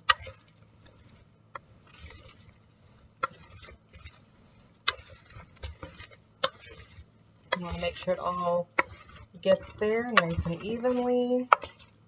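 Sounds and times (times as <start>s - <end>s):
wet rustling of vegetables: 0.0s - 12.0s.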